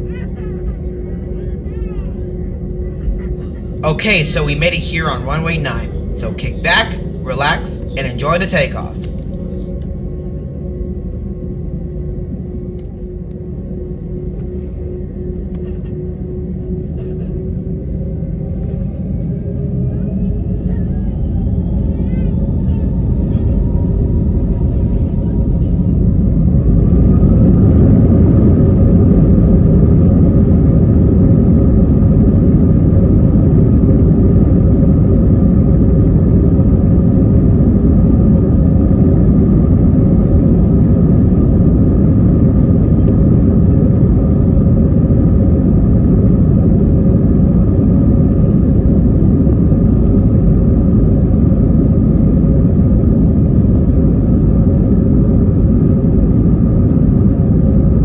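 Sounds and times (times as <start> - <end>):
jet engine whine rising: 0.0 - 58.0
low rumble of engines and wheels: 0.0 - 58.0.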